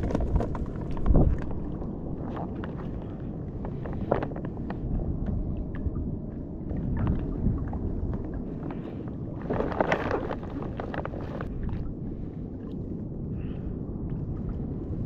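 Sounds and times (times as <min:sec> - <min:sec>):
sea water sloshing and lapping: 0:00.0 - 0:15.0
wind rumble on microphone: 0:00.0 - 0:15.0.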